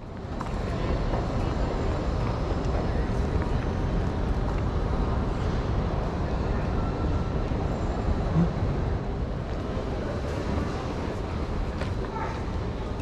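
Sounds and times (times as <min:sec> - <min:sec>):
train station hubbub: 0:00.0 - 0:13.0.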